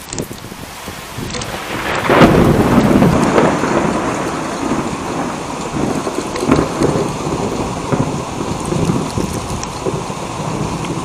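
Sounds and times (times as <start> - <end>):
heavy rain: 0.0 - 11.0
thunder rumbling: 0.0 - 11.0.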